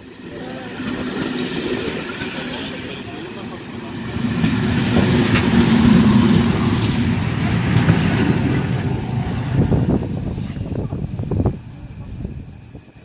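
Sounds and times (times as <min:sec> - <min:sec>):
locomotive passing: 0:00.0 - 0:13.0
train wheels rumbling on rail: 0:00.0 - 0:13.0.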